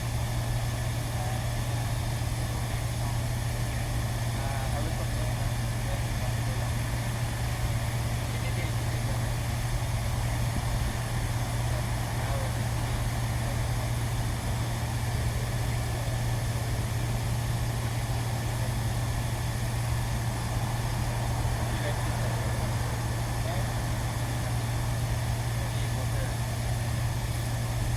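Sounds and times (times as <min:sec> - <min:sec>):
low machine hum: 0:00.0 - 0:27.9.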